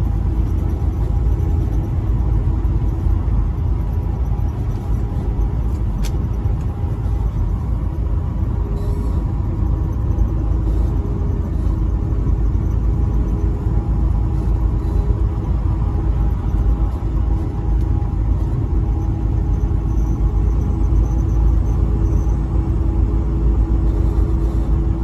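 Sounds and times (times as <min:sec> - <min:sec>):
road noise: 0:00.0 - 0:25.0
truck engine drone: 0:00.0 - 0:25.0.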